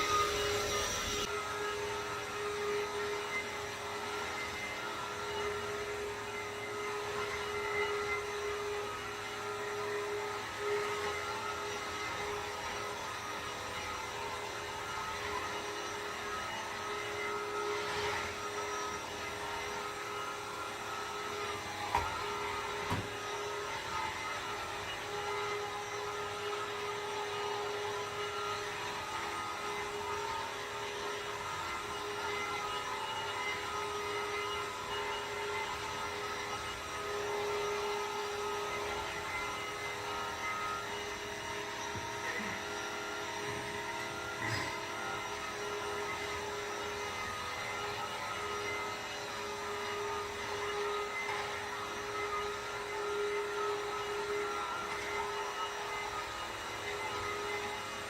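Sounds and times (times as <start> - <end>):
vacuum cleaner whine: 0.0 - 58.0.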